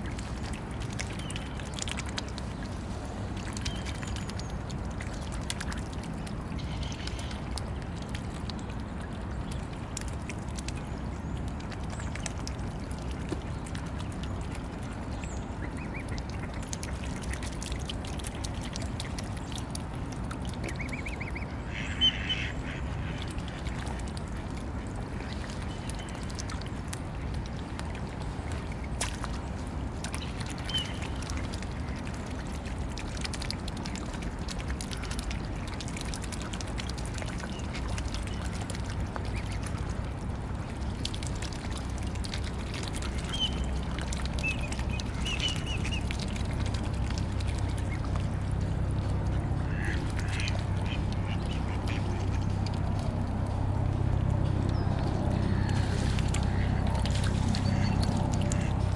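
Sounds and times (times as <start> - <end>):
birds dabbling and pecking: 0.0 - 58.9
low background rumble: 0.0 - 58.9
water sloshing: 0.0 - 58.9.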